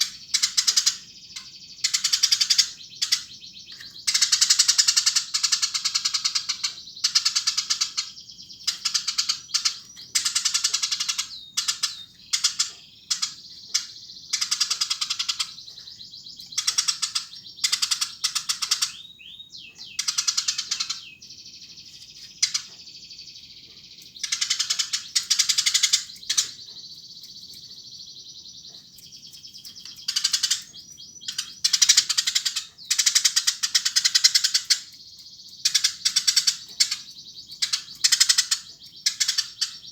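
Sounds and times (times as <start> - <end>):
faint bird twittering: 0.0 - 39.9
sparrows chirping: 0.0 - 39.9.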